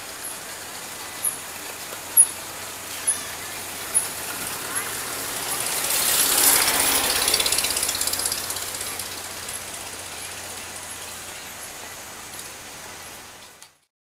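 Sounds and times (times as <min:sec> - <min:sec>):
fast mechanical clatter: 0:00.0 - 0:11.4
steam car passing by: 0:00.0 - 0:13.7.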